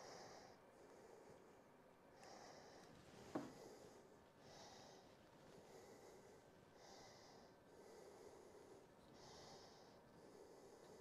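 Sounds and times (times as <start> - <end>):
faint slow breathing: 0.0 - 11.0.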